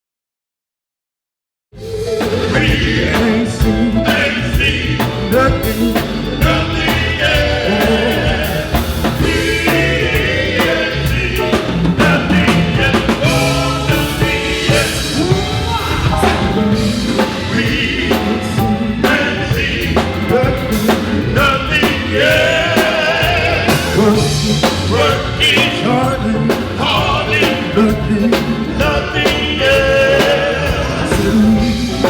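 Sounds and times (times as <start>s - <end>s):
band and singers gospel song: 1.8s - 32.0s.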